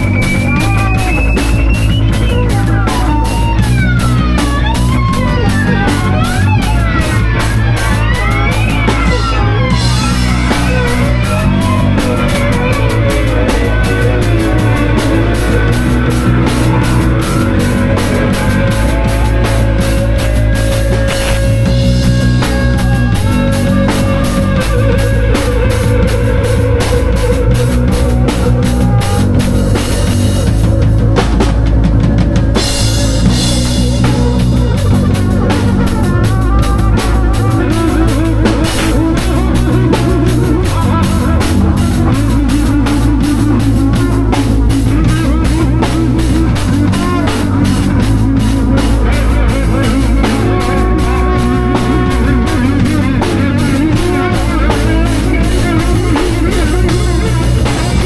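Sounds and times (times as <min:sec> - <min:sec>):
bass guitar: 0:00.0 - 0:58.0
drum kit playing a beat: 0:00.0 - 0:58.0
electric guitar: 0:00.0 - 0:58.0.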